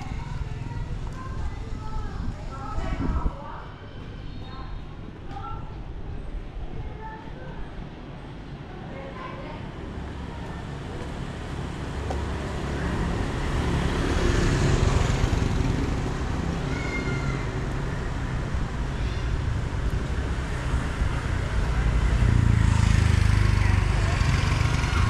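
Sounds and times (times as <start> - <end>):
passing traffic rumble: 0.0 - 25.0.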